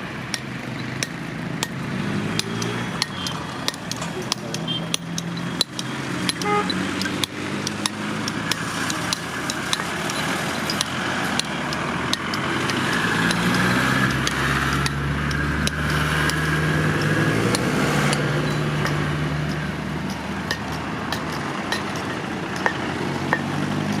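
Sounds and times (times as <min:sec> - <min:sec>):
motor engine humming: 0:00.0 - 0:24.0
sharp clicks and knocks: 0:00.2 - 0:24.0.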